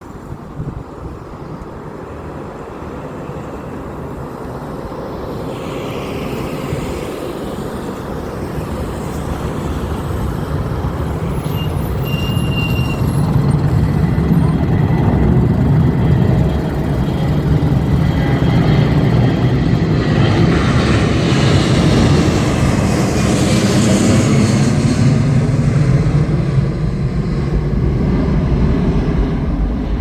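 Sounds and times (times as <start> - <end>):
jet engines on takeoff: 0.0 - 30.0.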